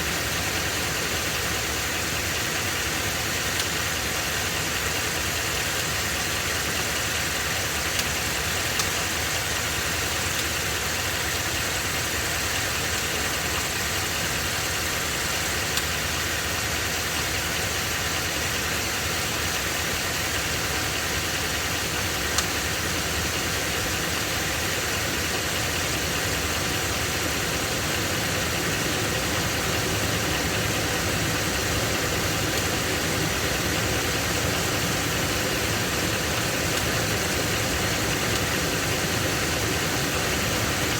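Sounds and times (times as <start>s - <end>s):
abnormal internal engine noise: 0.0s - 40.9s
truck engine idling: 0.0s - 40.9s.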